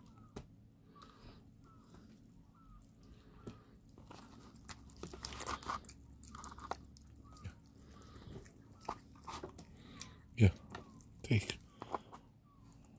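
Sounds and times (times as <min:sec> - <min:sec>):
kittens chewing meat: 0:00.9 - 0:12.9.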